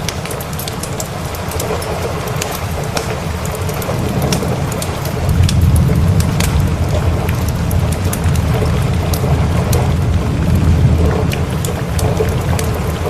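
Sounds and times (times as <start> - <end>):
sharp ticks and crackles: 0.0 - 13.0
steady rain: 0.0 - 13.0
thunder rumble: 0.0 - 13.0.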